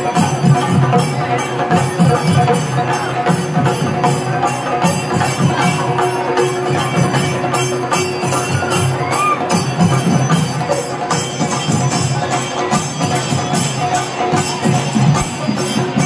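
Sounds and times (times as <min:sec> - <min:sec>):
drums beaten with sticks: 0:00.0 - 0:16.0
high cymbal clashes: 0:00.0 - 0:16.0.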